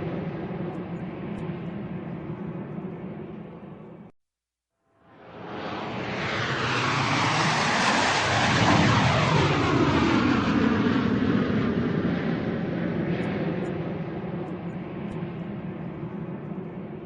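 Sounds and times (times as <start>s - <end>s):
airplane flying overhead: 0.0s - 4.1s, 5.0s - 17.0s.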